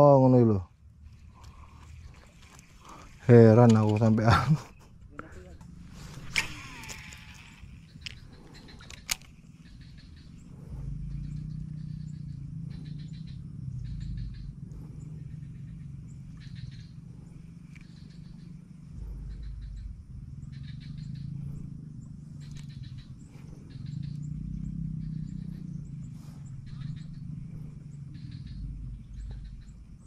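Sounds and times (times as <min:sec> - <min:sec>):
frogs droning chorus: 0:00.0 - 0:30.0
rapid high frog trills: 0:00.3 - 0:30.0.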